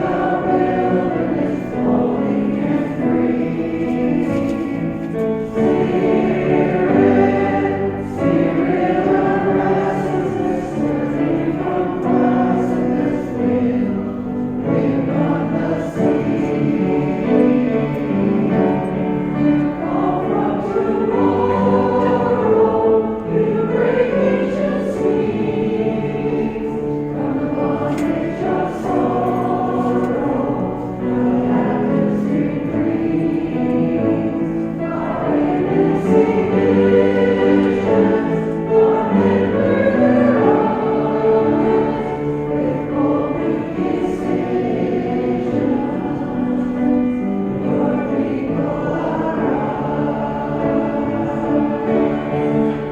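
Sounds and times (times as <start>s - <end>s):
group singing a hymn: 0.0s - 52.9s
keyboard accompaniment: 0.0s - 52.9s.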